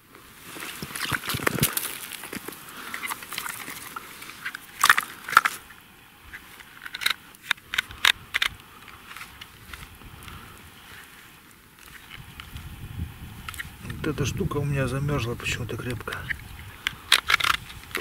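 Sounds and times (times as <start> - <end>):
slush crunching and crackling: 0.2 - 12.7, 13.4 - 18.0.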